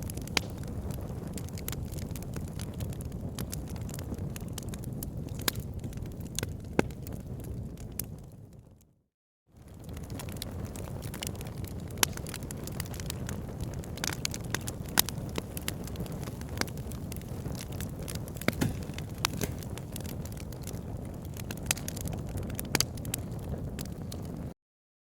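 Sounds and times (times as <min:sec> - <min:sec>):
wood fire crackling: 0:00.0 - 0:08.8, 0:09.6 - 0:24.6
fire popping and snapping: 0:00.0 - 0:08.9, 0:09.6 - 0:24.6.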